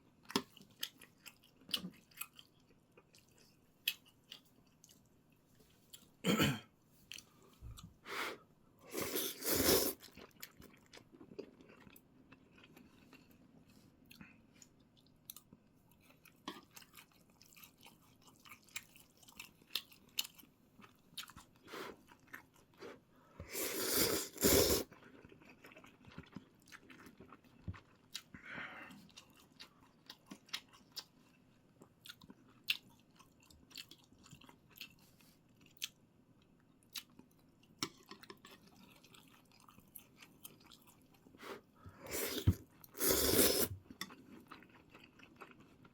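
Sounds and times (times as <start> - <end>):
person chewing food: 0.2 - 5.2, 8.9 - 45.9.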